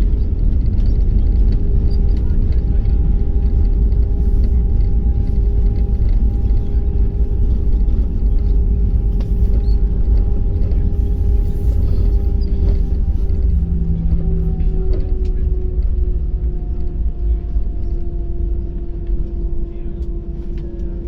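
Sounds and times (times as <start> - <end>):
wheels rumbling on runway: 0.0 - 21.0.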